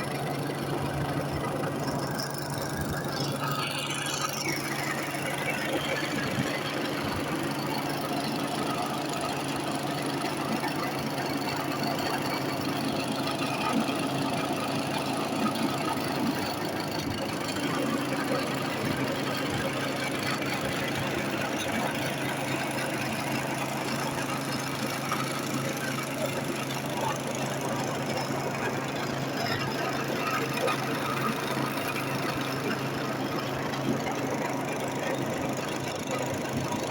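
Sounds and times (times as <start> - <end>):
engine humming steadily: 0.0 - 36.9.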